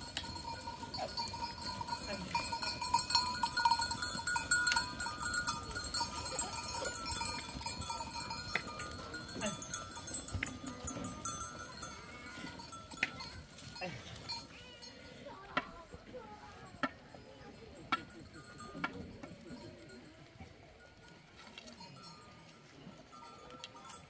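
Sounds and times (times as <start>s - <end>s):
goat bells clinking: 0.0s - 24.0s.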